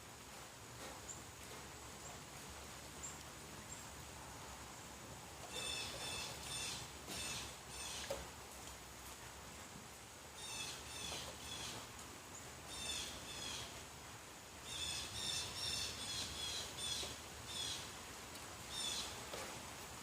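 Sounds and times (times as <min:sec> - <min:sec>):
rain hissing: 0:00.0 - 0:20.0.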